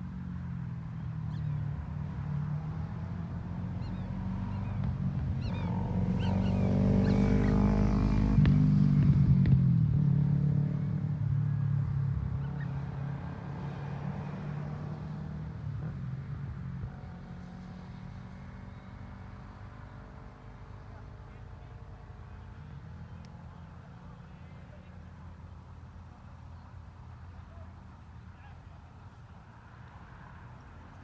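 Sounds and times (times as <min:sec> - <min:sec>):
vehicle engine passing by: 0:00.4 - 0:25.5.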